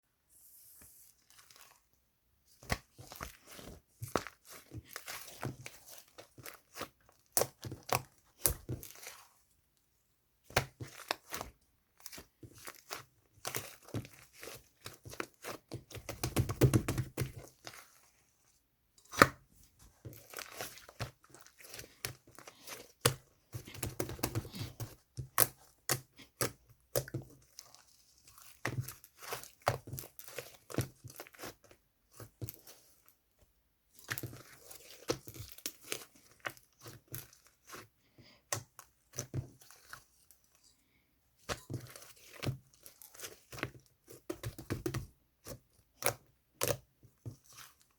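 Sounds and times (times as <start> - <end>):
hands squeezing sticky slime: 1.1 - 9.5, 10.4 - 18.3, 19.0 - 33.3, 33.9 - 40.7, 41.4 - 47.9.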